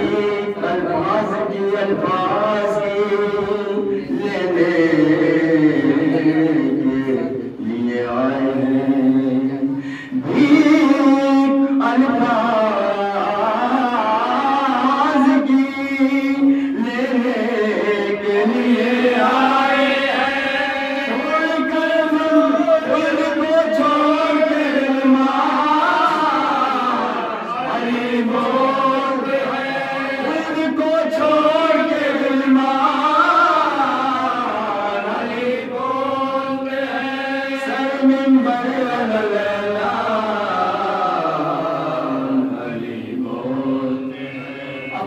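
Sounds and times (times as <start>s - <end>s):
men chanting a lament: 0.0s - 45.0s.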